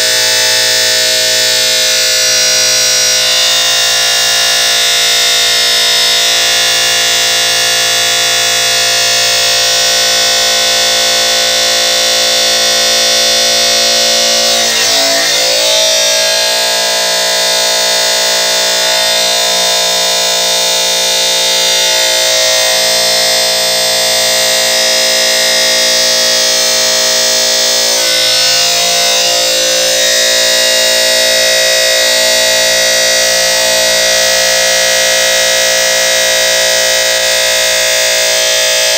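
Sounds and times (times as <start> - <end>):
cutting machine motor whine: 0.0 - 38.9.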